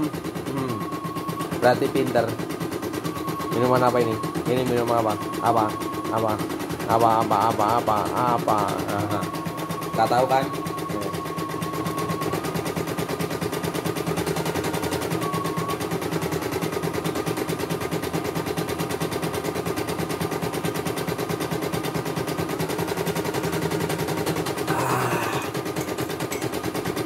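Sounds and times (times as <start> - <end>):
embroidery machine stitching rattle: 0.0 - 27.0
motor hum: 0.0 - 27.0.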